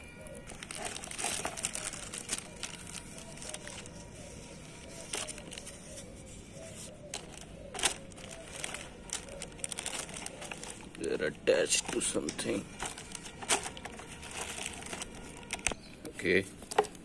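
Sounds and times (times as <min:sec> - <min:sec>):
plastic bag crinkling: 0:00.2 - 0:15.8
fabric gloves rustling: 0:00.4 - 0:15.7.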